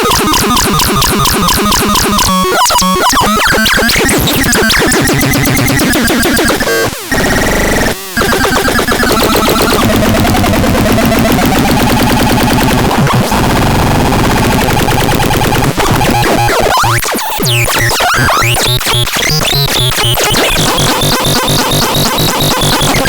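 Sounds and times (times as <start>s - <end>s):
harsh synthesizer tone: 0.0s - 23.0s.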